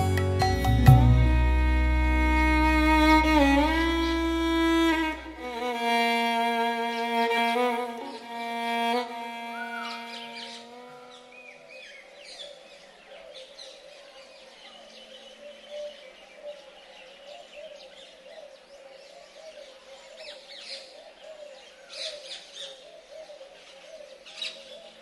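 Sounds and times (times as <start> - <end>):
birds chirping: 2.6 - 25.0.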